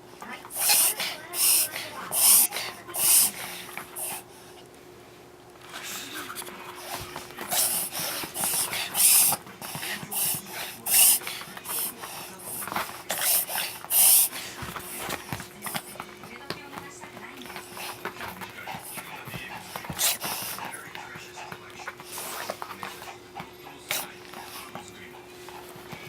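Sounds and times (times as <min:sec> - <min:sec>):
pet hissing breaths: 0:00.0 - 0:26.0.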